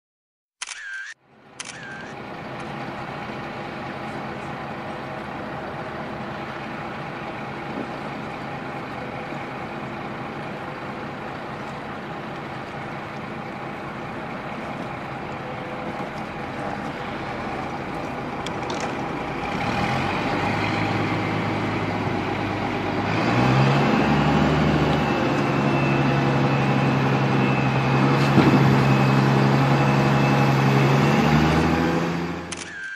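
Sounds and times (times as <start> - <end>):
boat engines running: 1.6 - 32.6.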